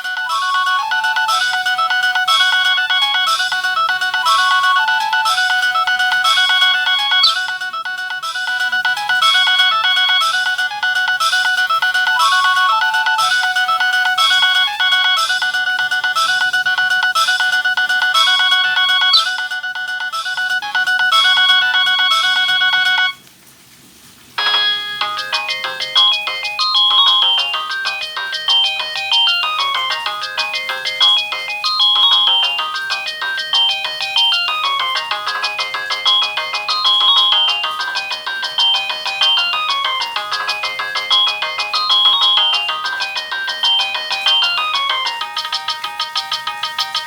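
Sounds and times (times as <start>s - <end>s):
phone ringtone melody: 0.0s - 23.2s, 24.4s - 47.0s.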